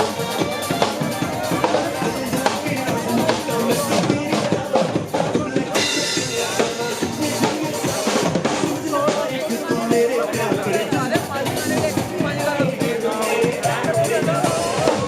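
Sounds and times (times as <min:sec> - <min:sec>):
drum kit music: 0:00.0 - 0:15.0.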